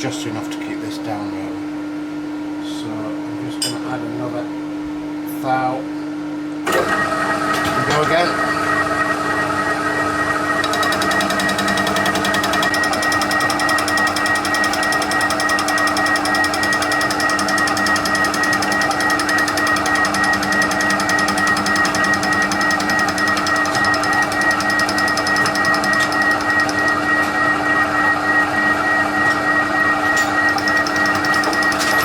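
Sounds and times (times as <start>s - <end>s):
milling machine hum: 6.1s - 32.0s.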